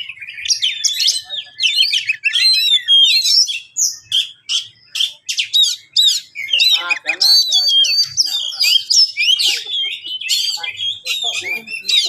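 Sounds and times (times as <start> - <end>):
magpie-robin singing: 0.0 - 12.0.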